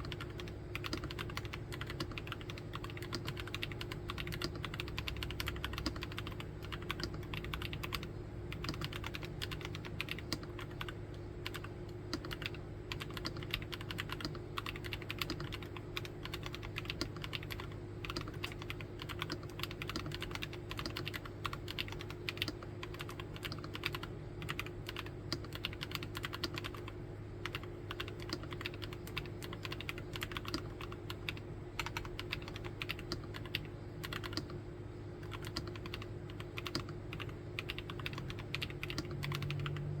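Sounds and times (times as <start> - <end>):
fast keyboard typing: 0.0 - 34.6, 35.2 - 40.0.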